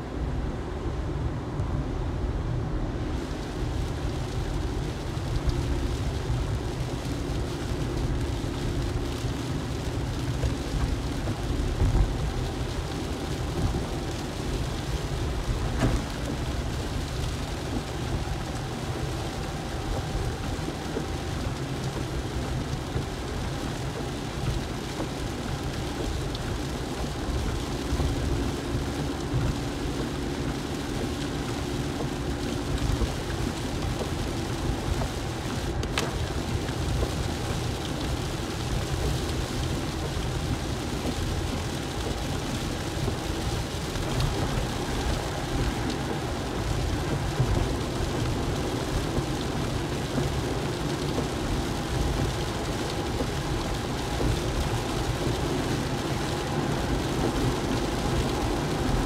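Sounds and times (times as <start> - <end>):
rain on the car: 0.0 - 59.0
tyres on wet asphalt: 2.9 - 59.0.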